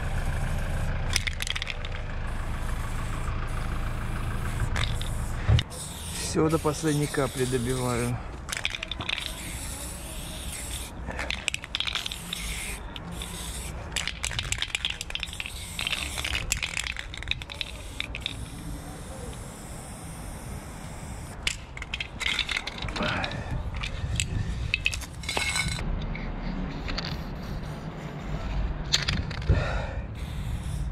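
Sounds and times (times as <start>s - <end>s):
spray can hissing: 0.2s - 24.0s, 26.7s - 28.2s, 30.2s - 30.9s
spray can clicks and rattles: 1.1s - 27.8s, 28.8s - 29.5s, 30.2s - 30.9s.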